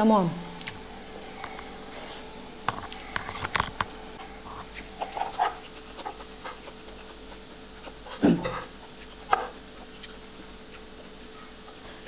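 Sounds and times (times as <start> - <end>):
chewing and mouth noises: 0.6 - 12.0.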